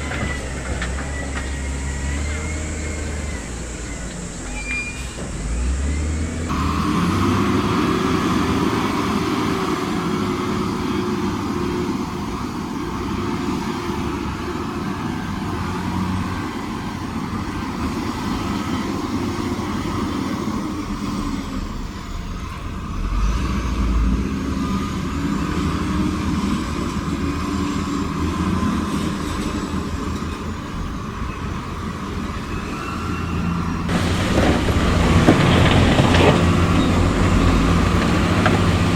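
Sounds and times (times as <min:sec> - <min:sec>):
diesel construction machinery working: 0:00.0 - 0:38.9.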